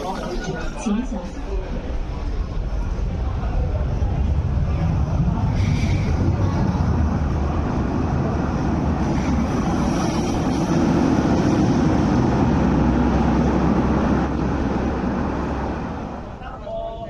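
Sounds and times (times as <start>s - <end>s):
funicular car rumbling on rails: 0.0s - 17.0s.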